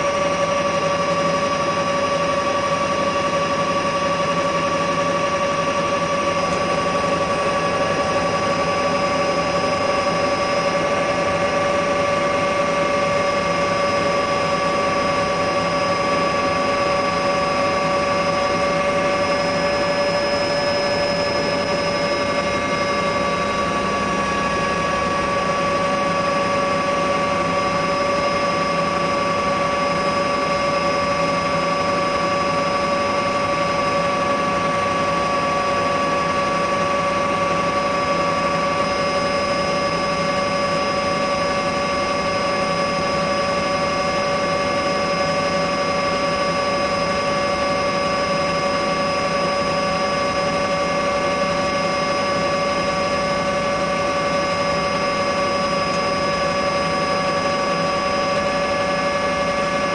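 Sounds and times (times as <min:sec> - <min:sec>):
engine and rotor rush: 0:00.0 - 0:59.9
helicopter turbine whine: 0:00.0 - 0:59.9.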